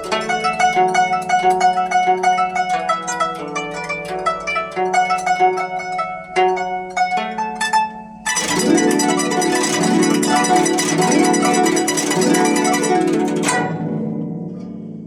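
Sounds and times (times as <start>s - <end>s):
guzheng plucked notes: 0.0s - 15.0s
guzheng string sweep: 0.0s - 15.0s.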